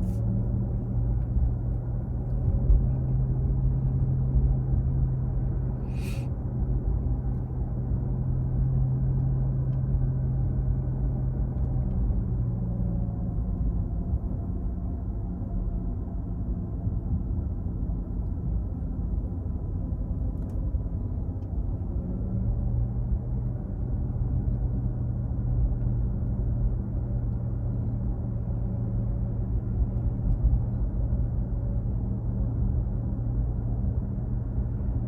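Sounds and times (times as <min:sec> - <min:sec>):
low hum: 0:00.0 - 0:35.0
road and tyre rumble: 0:00.0 - 0:35.0.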